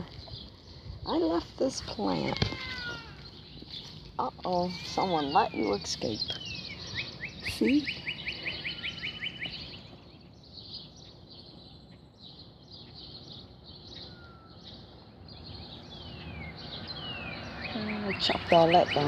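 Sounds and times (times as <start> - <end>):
outdoor background noise: 0.0 - 19.0
small birds chirping: 0.0 - 19.0.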